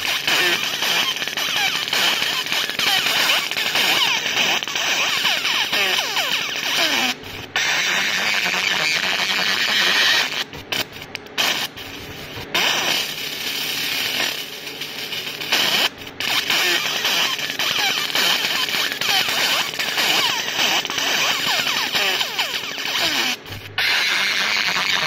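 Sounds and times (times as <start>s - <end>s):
laser marking machine hissing: 0.0s - 25.0s.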